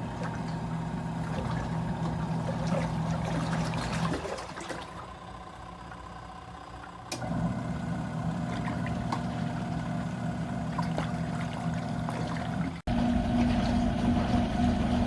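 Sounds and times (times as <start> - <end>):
water churning in tub: 0.0 - 6.2, 7.2 - 15.0
washing machine motor hum: 0.0 - 15.0.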